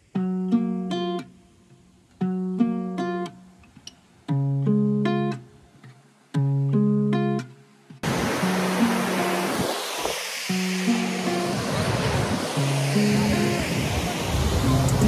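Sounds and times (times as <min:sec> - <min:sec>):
plucked guitar phrases: 0:00.0 - 0:09.6, 0:10.6 - 0:15.0.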